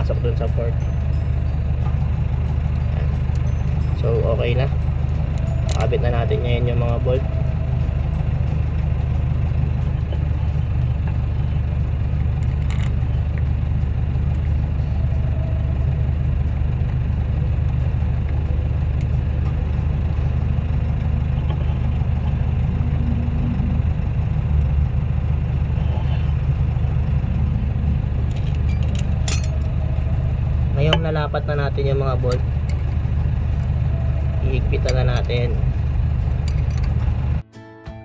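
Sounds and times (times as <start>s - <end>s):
engine idling: 0.0s - 37.4s.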